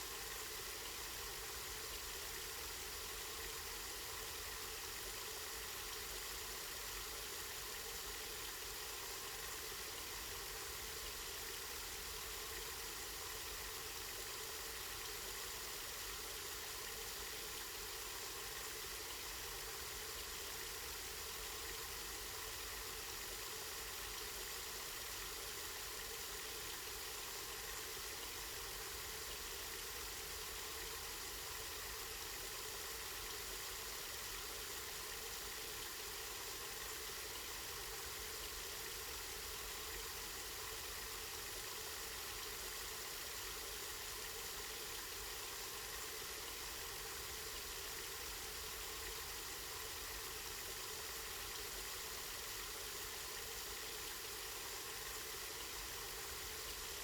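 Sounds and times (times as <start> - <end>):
spring water flowing and splashing: 0.0 - 57.0.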